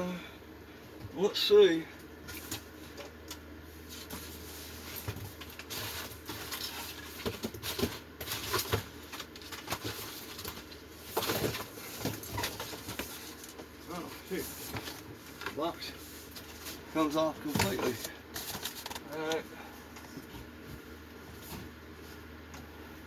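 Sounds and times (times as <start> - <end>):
cardboard packing scraping and rustling: 3.7 - 22.4.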